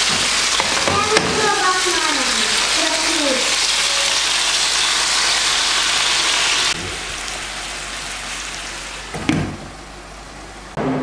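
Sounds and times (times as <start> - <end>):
meat sizzling in hot oil: 0.0 - 9.1.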